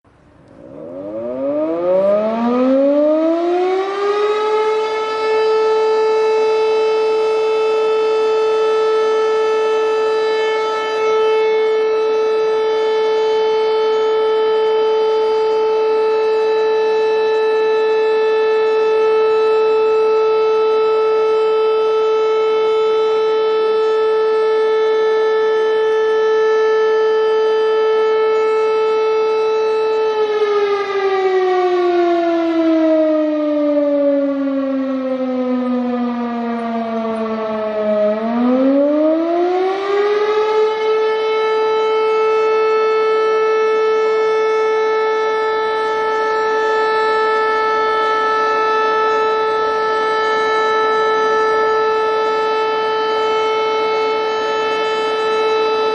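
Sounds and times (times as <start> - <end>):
siren wailing: 0.1 - 55.9.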